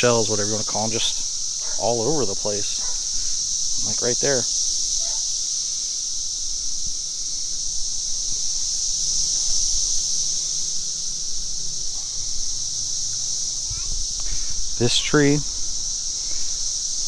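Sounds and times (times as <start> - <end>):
cicadas chorus: 0.0 - 17.0.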